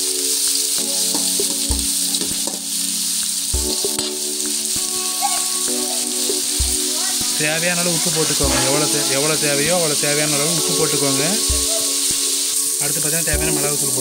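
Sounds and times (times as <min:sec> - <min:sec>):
background music with held chords: 0:00.0 - 0:14.0
vegetables sizzling in hot oil: 0:00.0 - 0:14.0.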